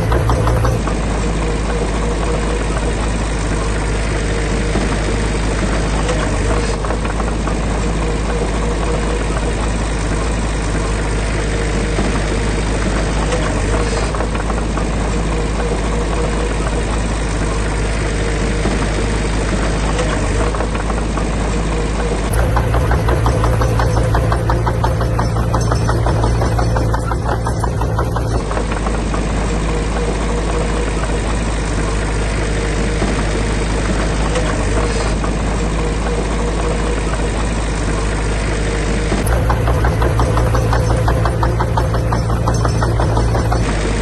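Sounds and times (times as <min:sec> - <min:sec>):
heavy diesel engine rumbling: 0:00.0 - 0:44.0.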